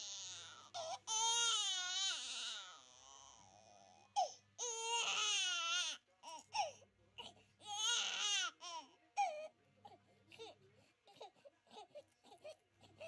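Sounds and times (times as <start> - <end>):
baby crying and whimpering: 0.0 - 13.0.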